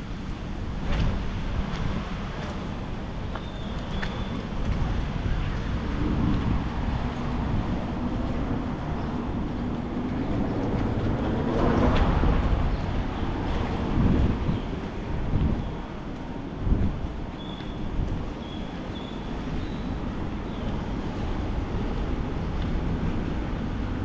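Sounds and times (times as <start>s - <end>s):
low wind noise on microphone: 0.0s - 24.0s
vehicle passing on wet street: 0.0s - 24.0s.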